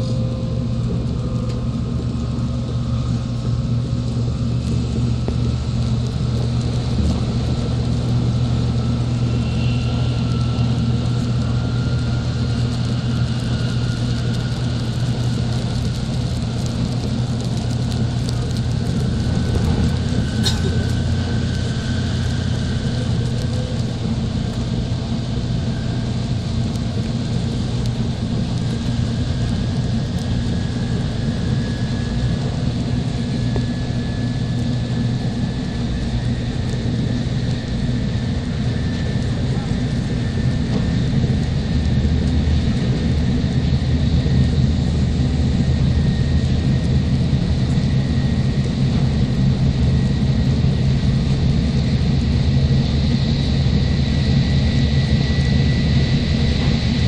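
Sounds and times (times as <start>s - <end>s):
faint rising whine: 0.0s - 57.0s
train low rumble: 0.0s - 57.0s.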